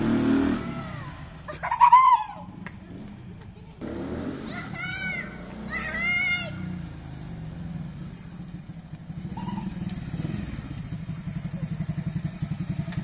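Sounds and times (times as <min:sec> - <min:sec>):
small motorcycle engine: 0:00.0 - 0:02.0, 0:03.6 - 0:13.0.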